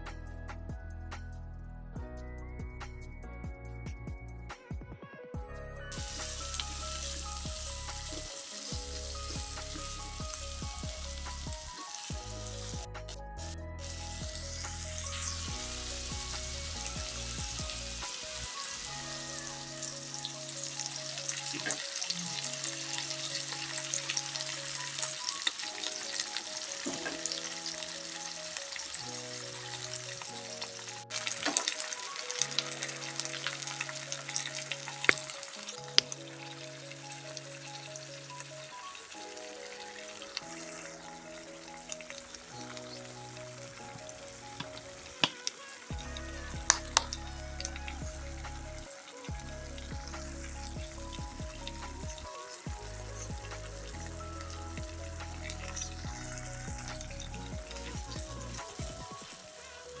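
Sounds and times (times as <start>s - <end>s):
background music: 0.0s - 60.0s
food sizzling in hot oil: 5.9s - 60.0s.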